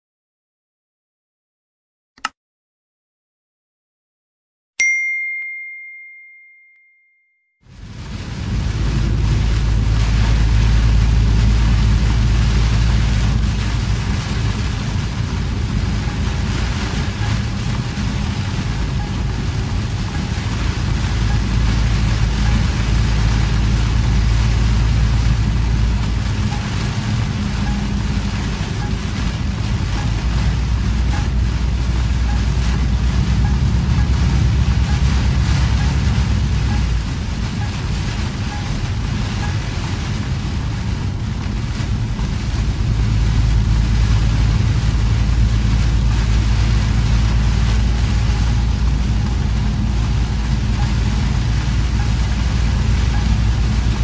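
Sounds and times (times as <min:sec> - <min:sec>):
heavy rain on vehicle roof: 0:07.6 - 0:54.0
low road rumble: 0:07.6 - 0:54.0.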